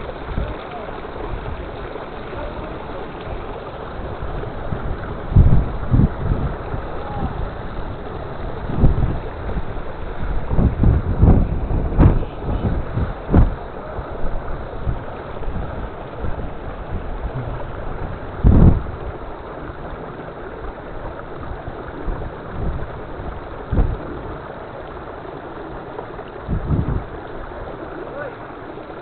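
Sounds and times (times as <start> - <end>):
wind buffeting microphone: 0.0 - 28.9
waterfall rushing: 0.0 - 29.0.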